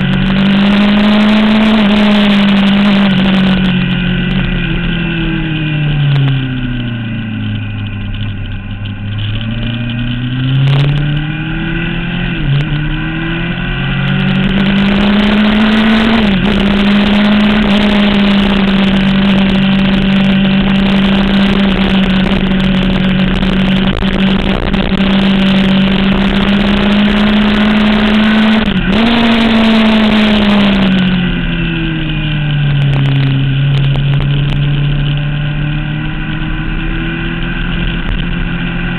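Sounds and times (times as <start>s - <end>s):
motorcycle engine revving: 0.0s - 38.9s
wind rushing over microphone: 0.0s - 38.9s.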